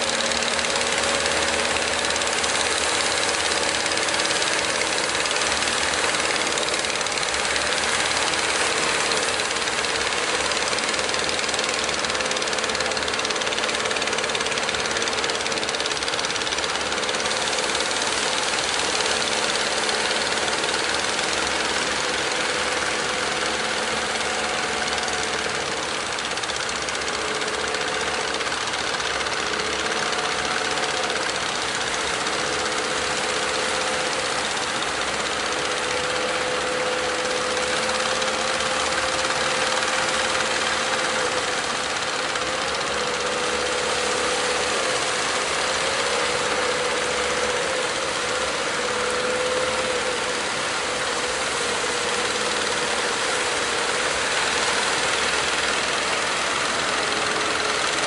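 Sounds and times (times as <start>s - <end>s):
boat diesel engine running hard: 0.0s - 58.0s.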